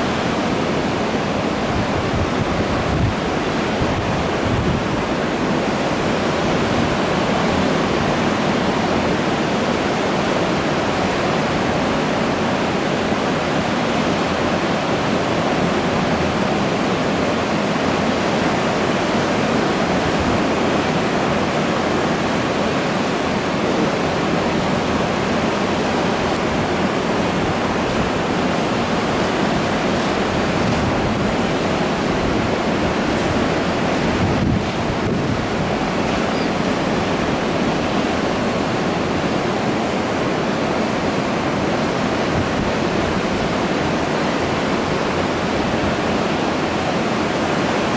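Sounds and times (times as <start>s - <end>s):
ocean surf breaking: 0.0s - 47.9s.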